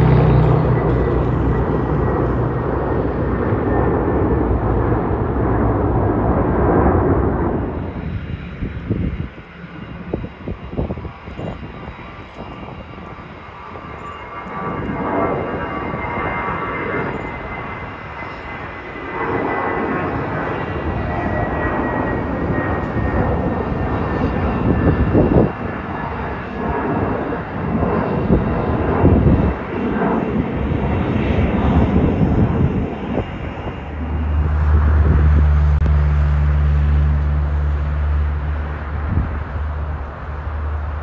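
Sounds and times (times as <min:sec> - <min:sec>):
faint high engine whine: 0:00.0 - 0:41.0
jet airliner engine roar: 0:00.0 - 0:41.0.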